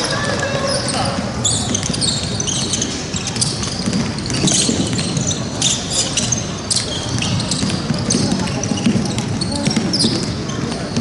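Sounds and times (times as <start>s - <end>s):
sneakers squeaking on floor: 0.0s - 11.0s
basketball bouncing: 0.1s - 11.0s.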